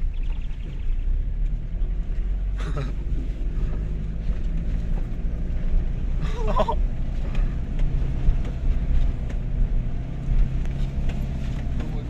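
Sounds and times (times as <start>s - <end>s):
vehicle rumbling on dirt track: 0.0s - 12.0s.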